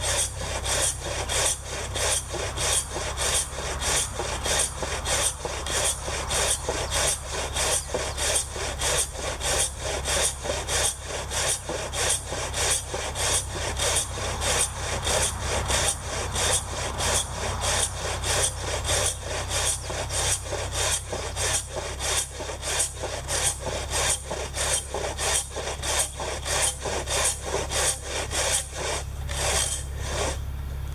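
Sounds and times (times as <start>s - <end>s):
hand saw ripping wood: 0.0s - 30.5s.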